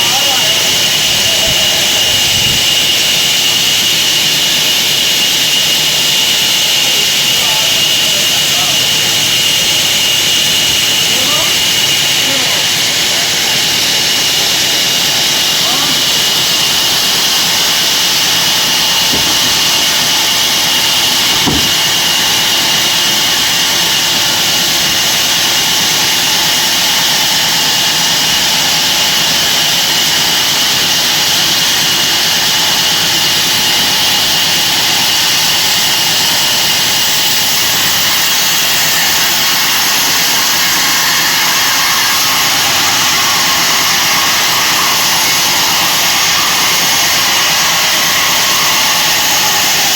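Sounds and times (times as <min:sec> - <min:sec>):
bandsaw running: 0:00.0 - 0:49.9.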